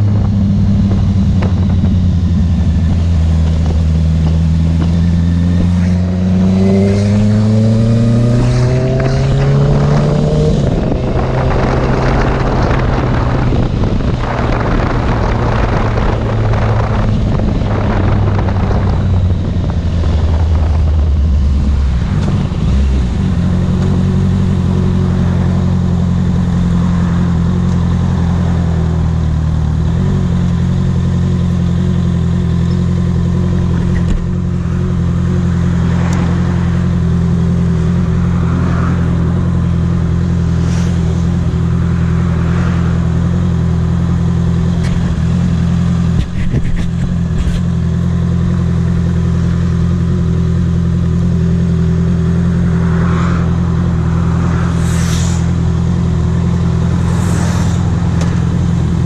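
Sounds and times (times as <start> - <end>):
wind rushing over microphone: 0.0 - 49.4, 50.0 - 59.0
motorcycle engine: 0.0 - 59.0.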